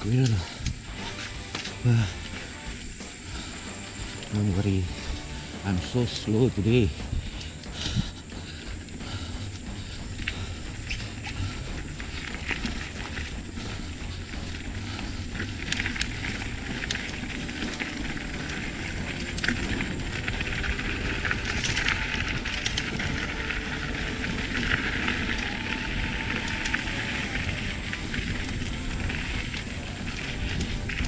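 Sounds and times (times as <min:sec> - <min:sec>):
bike tyres crackling on dirt: 0:00.0 - 0:31.0.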